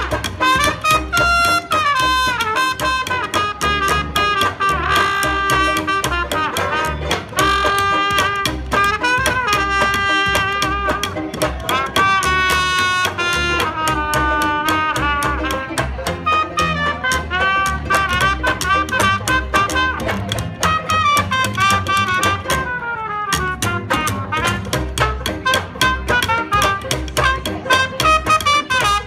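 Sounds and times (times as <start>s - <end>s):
jazz band playing: 0.0s - 29.0s.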